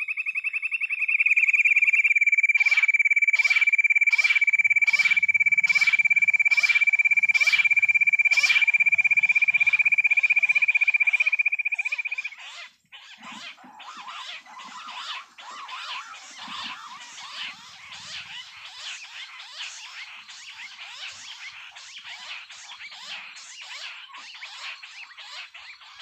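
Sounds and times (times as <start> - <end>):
chorus of chirping animal calls: 0.0 - 26.0.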